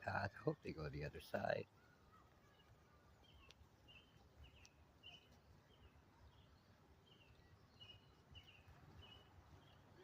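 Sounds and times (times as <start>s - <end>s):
small bird chirping: 0.9s - 10.0s.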